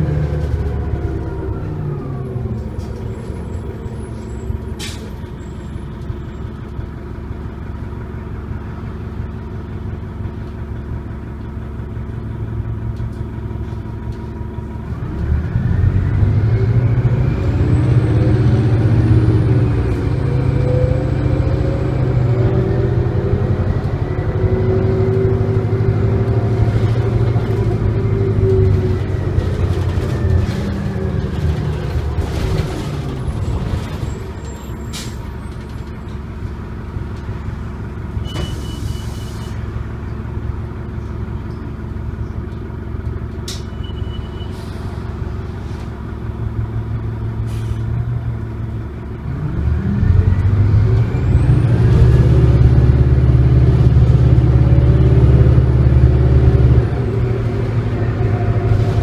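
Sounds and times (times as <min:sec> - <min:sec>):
bus diesel engine accelerating: 0:00.0 - 0:59.0.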